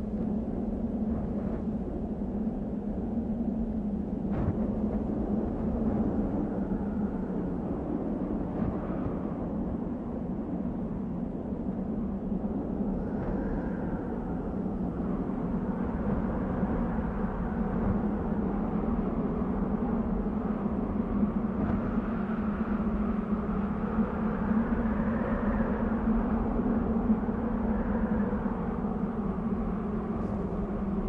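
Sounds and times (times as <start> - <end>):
desert wind blowing: 0.0 - 31.0
faint whistling wind tones: 0.0 - 31.0.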